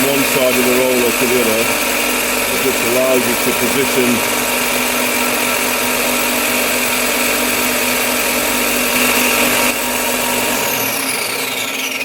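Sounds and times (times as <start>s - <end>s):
bench sander whining: 0.0s - 12.0s.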